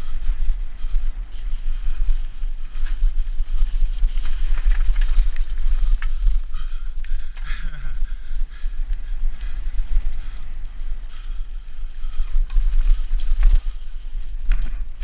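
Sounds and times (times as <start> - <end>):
light ticks and rattles: 0.0 - 15.0
wind rumble on microphone: 0.0 - 15.0.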